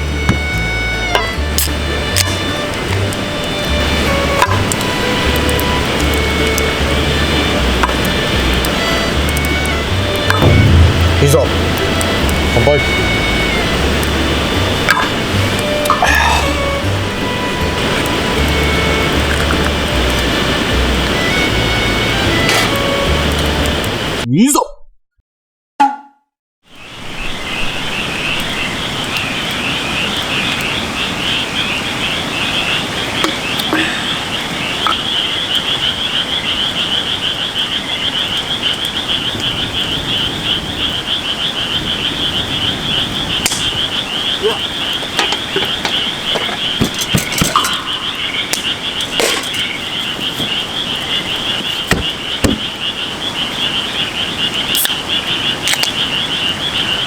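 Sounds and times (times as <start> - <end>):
pulsing animal calls chorus: 0.0 - 23.7, 26.9 - 57.0.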